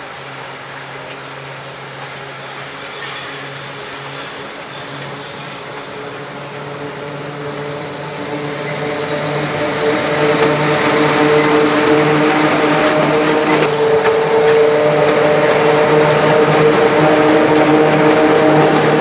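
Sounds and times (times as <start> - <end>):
electric locomotive motor hum: 0.0 - 19.0
wheel and rail noise: 0.0 - 19.0.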